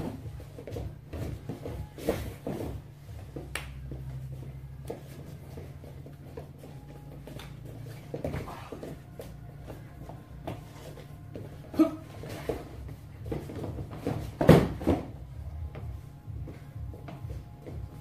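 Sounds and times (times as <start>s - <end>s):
thuds and scuffs on foam mats: 0.0s - 9.8s, 10.4s - 18.0s
steady low hum: 0.0s - 18.0s.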